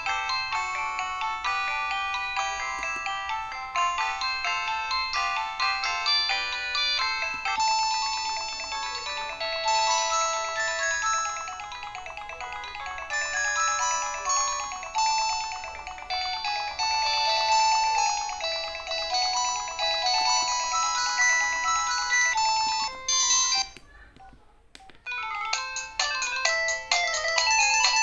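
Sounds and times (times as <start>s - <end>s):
polyphonic phone ringtone melody: 0.0s - 23.8s, 25.1s - 28.0s.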